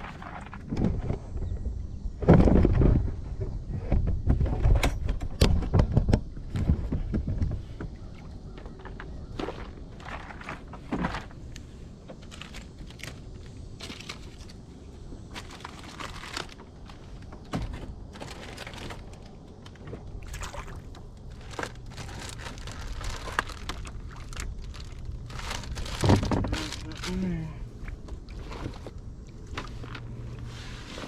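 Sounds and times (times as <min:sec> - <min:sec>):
clicks and rattles of fishing gear: 0:00.0 - 0:01.4, 0:03.9 - 0:30.5.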